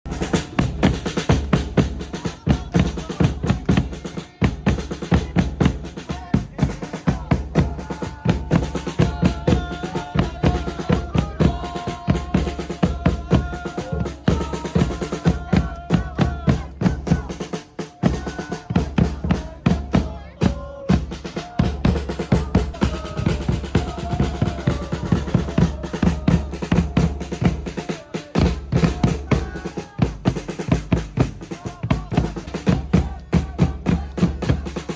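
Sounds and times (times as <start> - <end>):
music with drum beat and bass: 0.1 - 34.9.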